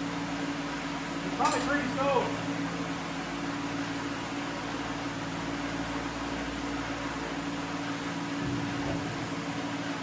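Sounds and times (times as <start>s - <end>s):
electric fan humming: 0.0s - 10.0s.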